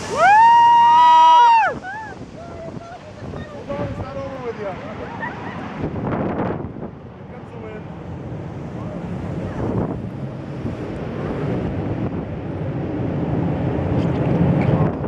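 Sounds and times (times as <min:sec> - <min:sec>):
surf: 0:00.0 - 0:15.0
wind buffeting microphone: 0:00.0 - 0:15.0.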